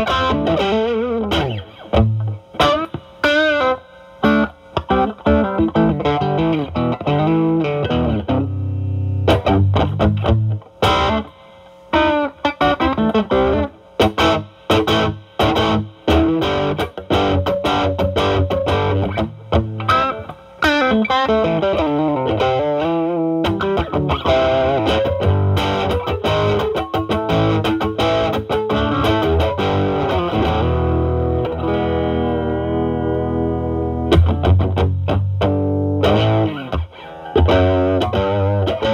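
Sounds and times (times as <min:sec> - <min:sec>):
overdriven electric guitar blues lead: 0:00.0 - 0:38.9.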